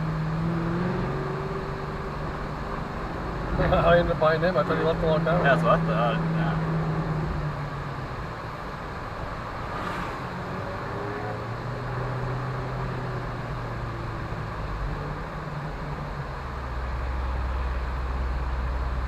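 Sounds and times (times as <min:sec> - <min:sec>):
car engines pulling away: 0:00.0 - 0:19.0
traffic noise: 0:00.0 - 0:19.0.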